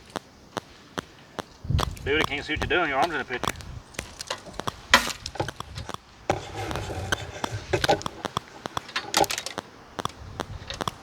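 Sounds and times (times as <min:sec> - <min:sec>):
hands clicking on cable clips: 0:00.0 - 0:06.1, 0:06.7 - 0:11.0.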